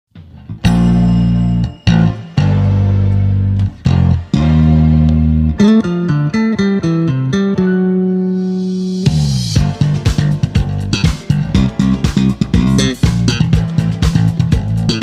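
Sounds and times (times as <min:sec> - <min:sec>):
bass guitar notes: 0:00.2 - 0:15.0.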